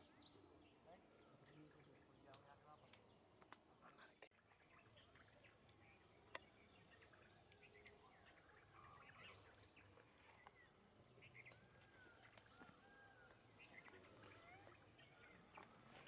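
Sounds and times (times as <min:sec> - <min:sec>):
soft bird chirps: 0:00.0 - 0:16.0.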